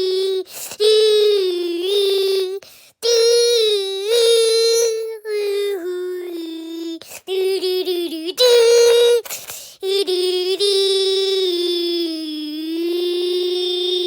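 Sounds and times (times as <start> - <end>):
child singing wordless melody: 0.0 - 14.0.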